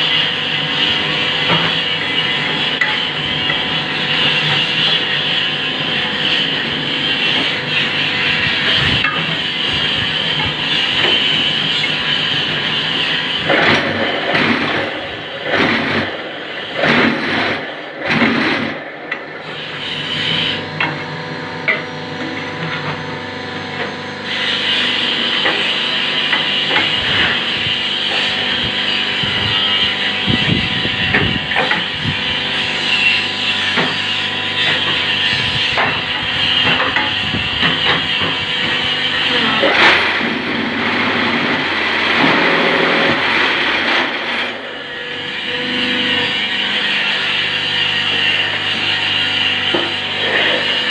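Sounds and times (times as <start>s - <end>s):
press machine hum and hiss: 0.0s - 50.9s.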